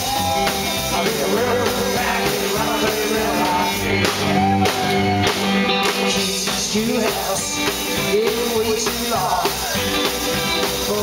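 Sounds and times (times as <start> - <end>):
drum beat: 0.0 - 11.0
rock band playing: 0.0 - 11.0.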